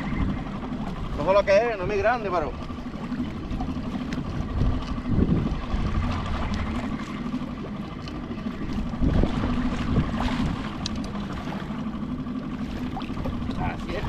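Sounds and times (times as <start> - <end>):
wind buffeting microphone: 0.0 - 14.0
water slapping against kayak hull: 2.0 - 14.0.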